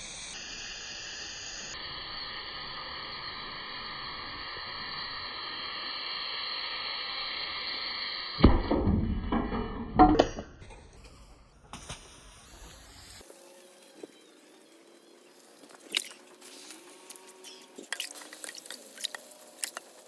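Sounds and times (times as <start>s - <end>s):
battery cell venting hiss: 0.0s - 8.4s, 11.6s - 20.0s.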